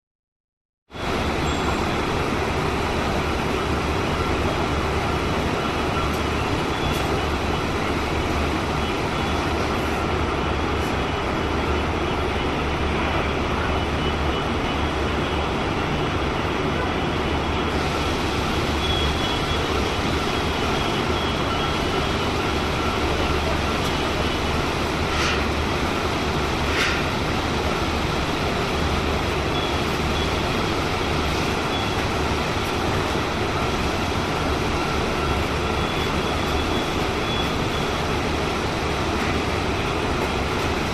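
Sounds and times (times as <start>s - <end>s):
factory machinery din: 1.0s - 40.9s.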